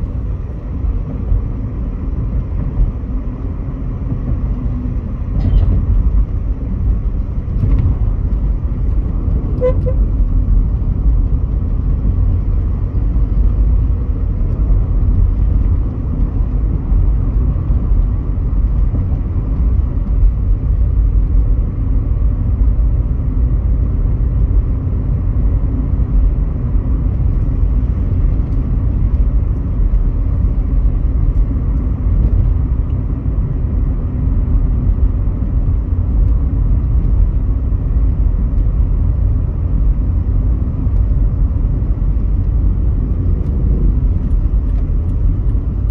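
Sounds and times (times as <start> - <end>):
engine and road noise in car: 0.0 - 45.9.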